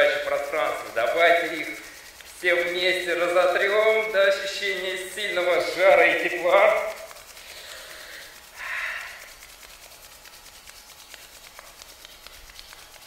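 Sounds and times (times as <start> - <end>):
palms rubbing together: 0.0 - 13.0.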